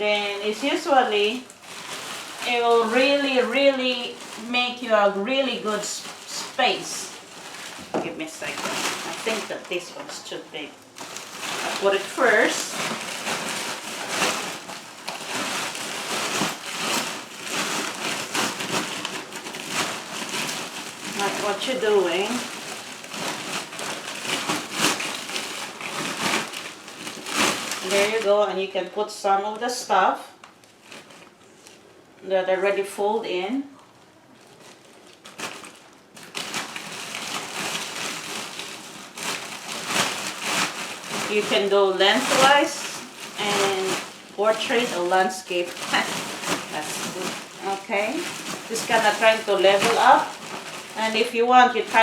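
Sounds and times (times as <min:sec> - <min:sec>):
plastic bag rustling and crinkling: 0:00.0 - 0:52.0.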